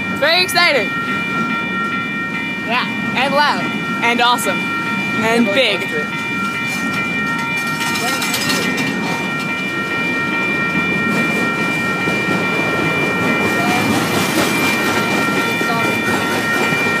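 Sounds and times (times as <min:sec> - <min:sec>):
high multi-tone whine: 0:00.0 - 0:17.0
train rumbling: 0:00.0 - 0:17.0.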